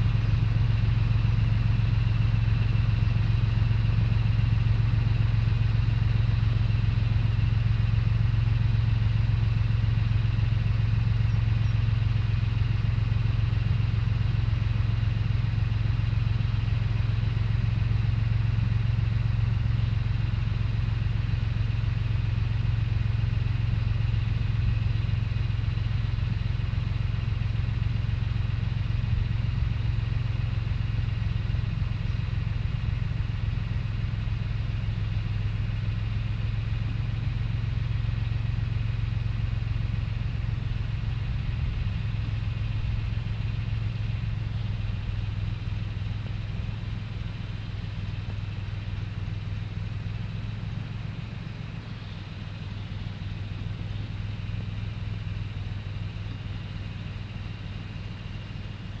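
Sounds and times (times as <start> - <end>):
tractor engine droning: 0.0 - 59.0.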